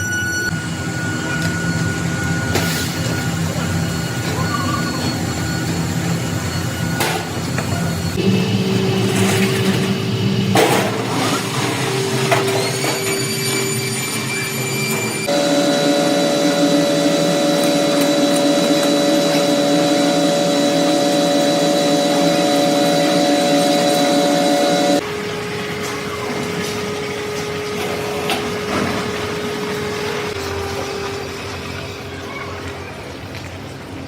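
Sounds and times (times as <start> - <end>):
machine tool whining and grinding: 0.2 - 31.5.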